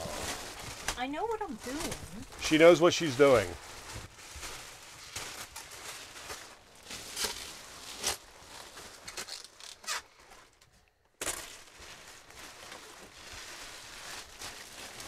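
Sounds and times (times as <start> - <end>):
plastic wrapping rustling and crinkling: 0.0 - 15.0.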